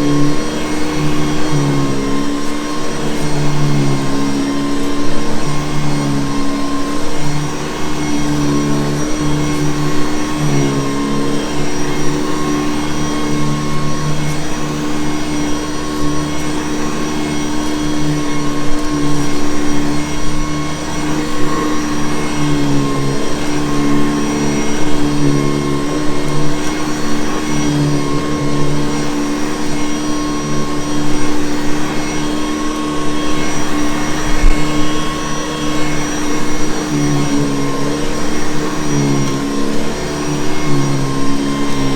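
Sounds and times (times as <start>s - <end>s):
upright vacuum cleaner running: 0.0s - 41.9s.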